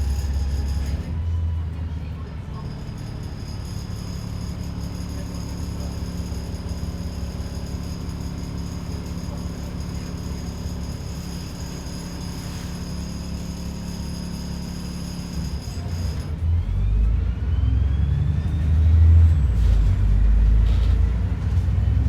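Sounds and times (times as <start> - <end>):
bus diesel engine hum: 0.0 - 22.0.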